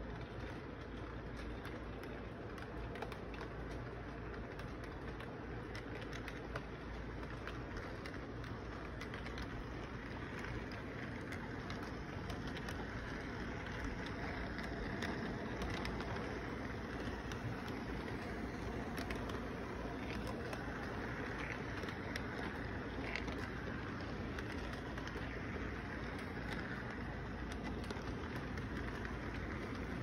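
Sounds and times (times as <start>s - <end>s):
model train rolling on track: 0.0s - 30.0s
wheels clicking on rails: 0.0s - 30.0s.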